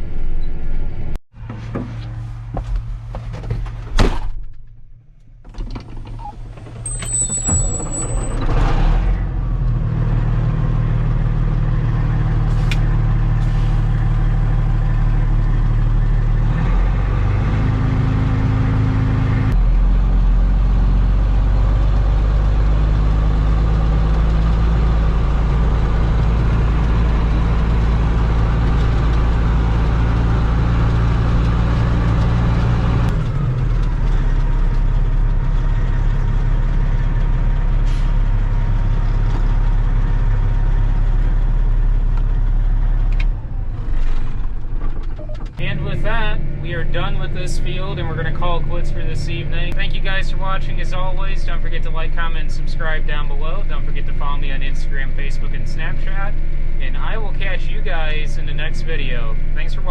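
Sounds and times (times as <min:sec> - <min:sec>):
heavy diesel engine running: 0:06.3 - 0:59.9.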